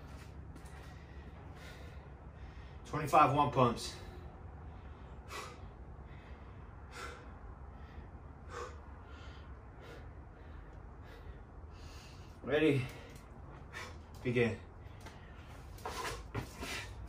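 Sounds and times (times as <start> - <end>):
man breathing hard: 0.0 - 2.9, 3.7 - 17.0.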